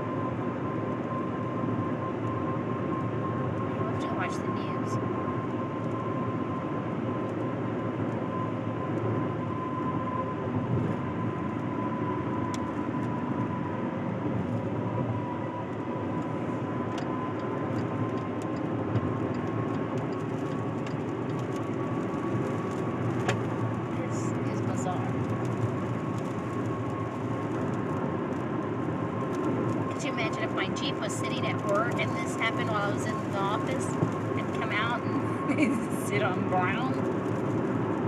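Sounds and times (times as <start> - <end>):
faint steady whine: 0.0 - 38.0
road and wind noise in car: 0.0 - 38.0.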